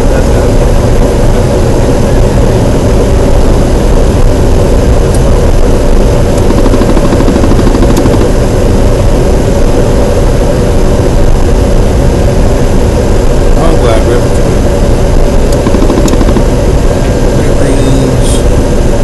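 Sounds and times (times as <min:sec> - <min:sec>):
light aircraft engine and propeller: 0:00.0 - 0:19.0.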